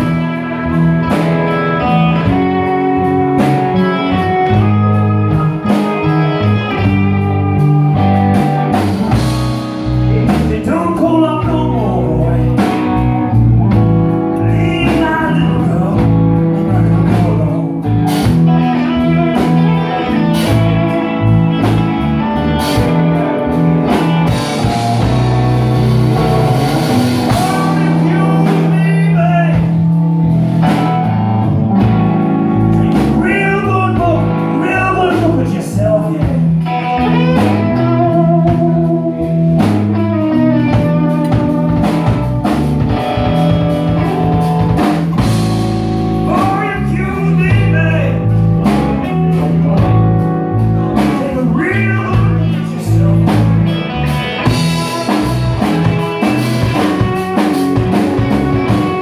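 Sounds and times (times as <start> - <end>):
electric guitar: 0.0 - 59.0
steady drum beat: 0.0 - 59.0
walking bass line: 0.0 - 59.0.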